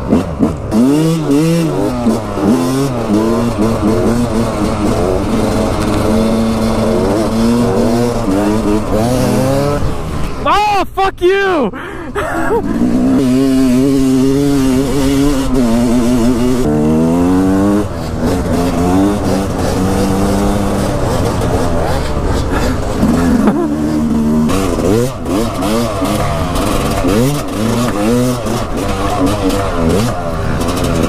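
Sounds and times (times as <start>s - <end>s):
dirt bike engine revving: 0.0s - 10.5s, 11.8s - 31.0s.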